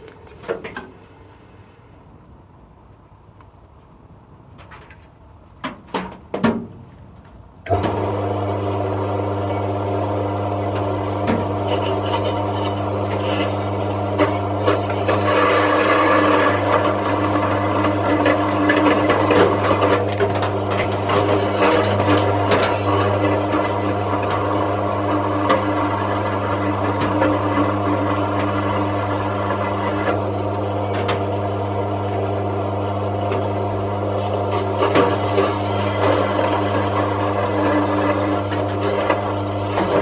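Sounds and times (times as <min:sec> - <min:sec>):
electric motor humming and grinding: 0:07.7 - 0:40.0.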